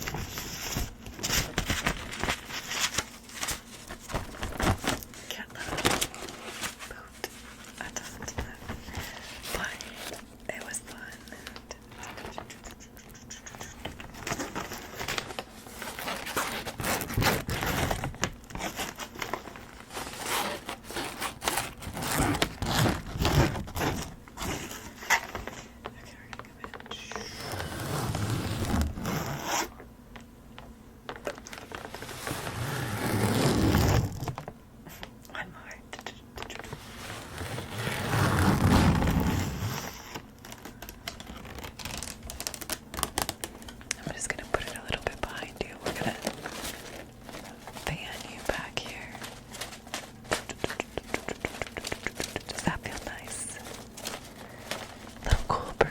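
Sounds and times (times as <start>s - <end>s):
crinkling and rustling: 0.0s - 12.9s, 13.5s - 29.3s, 30.1s - 35.8s, 36.4s - 55.9s.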